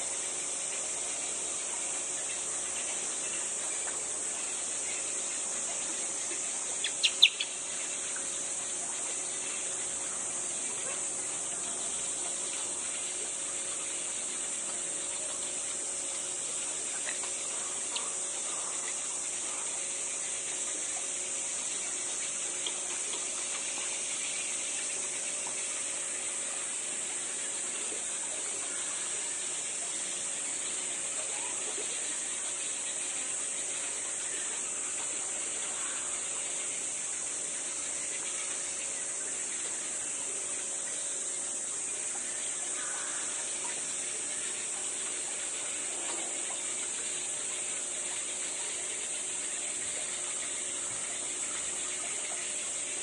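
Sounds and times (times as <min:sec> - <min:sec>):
faint hiss: 0:00.0 - 0:53.0
high-pitched insect drone: 0:00.0 - 0:53.0.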